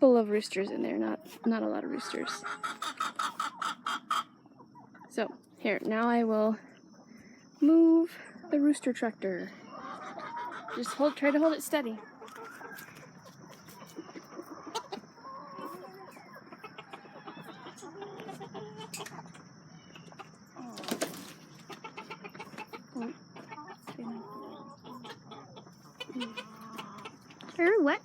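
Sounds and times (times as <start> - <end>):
roosters clucking and calling: 0.0 - 28.0.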